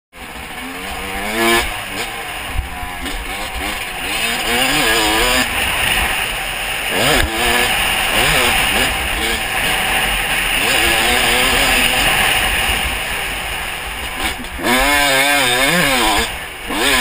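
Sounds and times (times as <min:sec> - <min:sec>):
motocross engine revving: 0:00.2 - 0:17.0.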